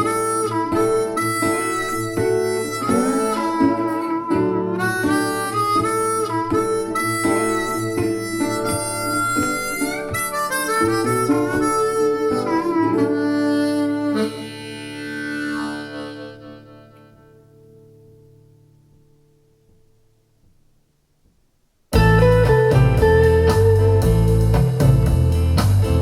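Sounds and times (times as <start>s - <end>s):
harmonica: 0.0s - 17.8s, 22.0s - 26.0s
guitar accompaniment: 0.0s - 20.8s, 21.9s - 26.0s.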